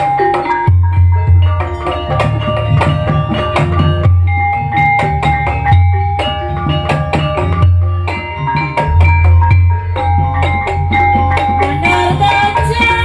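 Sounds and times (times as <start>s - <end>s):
drums and percussion strokes: 0.0s - 13.0s
sustained tuned notes: 0.0s - 13.0s
low bass line: 0.7s - 13.0s.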